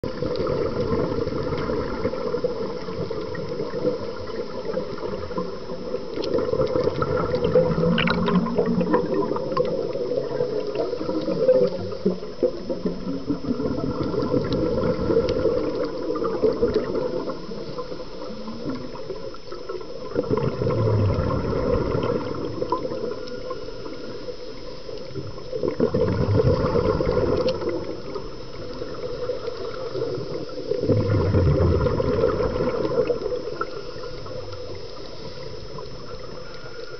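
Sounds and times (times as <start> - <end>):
underwater rushing and gurgling: 0.0 - 36.9.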